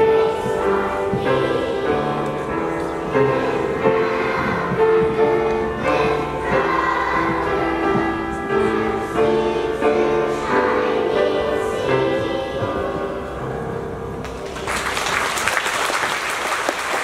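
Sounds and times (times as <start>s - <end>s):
children's choir singing: 0.0s - 13.9s.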